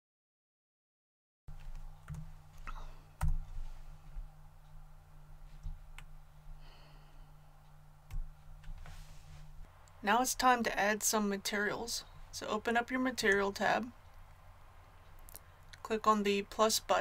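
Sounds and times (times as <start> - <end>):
low steady hum: 1.5 - 17.0.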